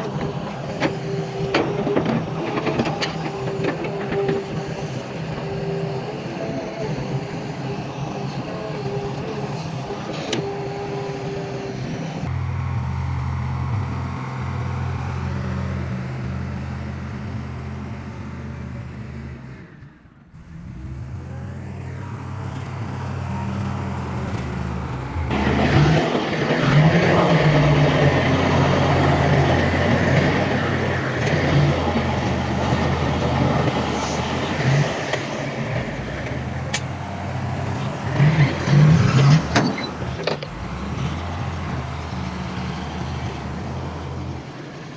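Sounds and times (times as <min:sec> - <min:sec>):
diesel earthmoving machinery engine: 0:00.0 - 0:07.4, 0:12.2 - 0:44.9.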